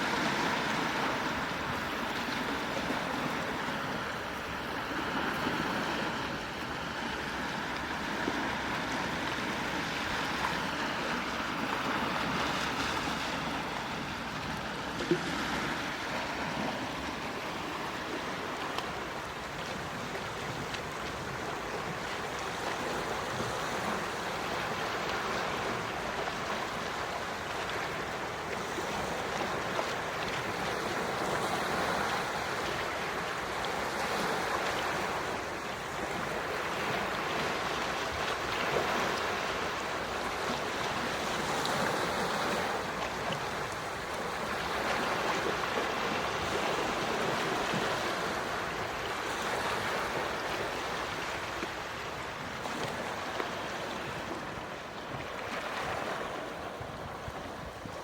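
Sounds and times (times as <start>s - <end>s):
sea waves washing onto shore: 0.0s - 58.0s.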